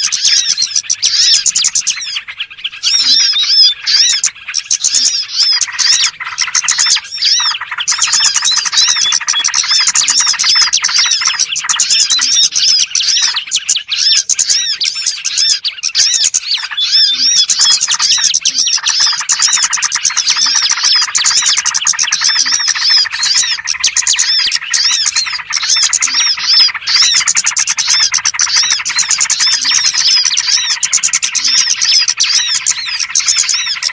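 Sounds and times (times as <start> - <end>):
songbirds chirping and twittering: 0.0 - 33.9.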